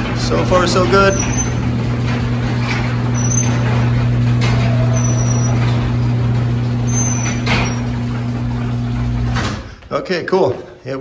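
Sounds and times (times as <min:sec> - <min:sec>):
door clacking in tracks: 0:00.0 - 0:09.8
garage door motor humming: 0:00.0 - 0:10.0.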